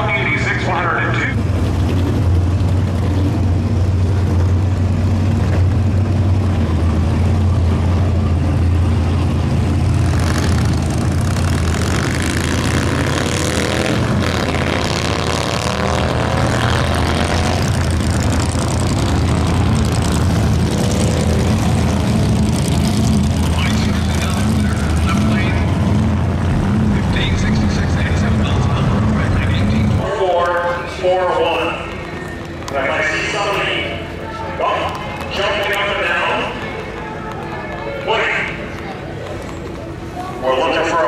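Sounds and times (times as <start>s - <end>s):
motorcycles idling and accelerating: 0.0s - 41.0s.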